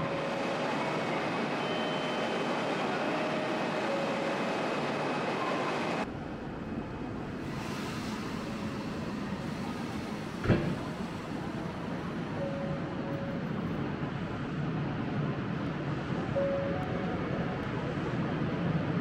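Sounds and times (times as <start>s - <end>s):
subway train equipment running: 0.0s - 19.0s.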